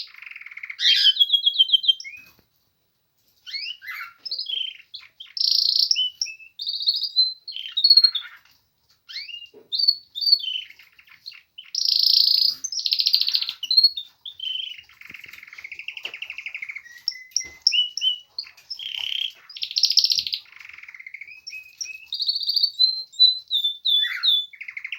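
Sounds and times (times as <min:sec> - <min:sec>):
canary singing trills: 0:00.0 - 0:02.4, 0:03.4 - 0:24.9.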